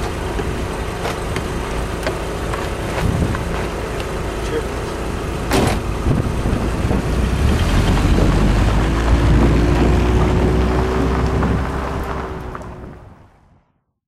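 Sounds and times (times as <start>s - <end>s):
car engine rumbling driving off: 0.0s - 13.6s.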